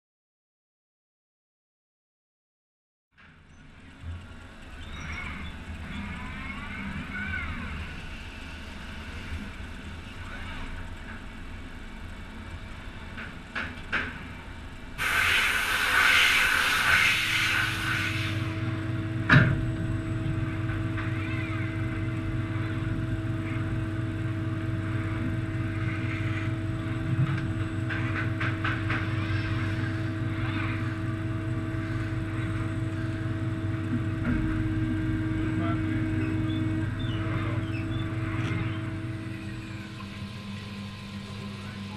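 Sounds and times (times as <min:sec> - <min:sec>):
low machine hum: 0:03.2 - 0:41.9.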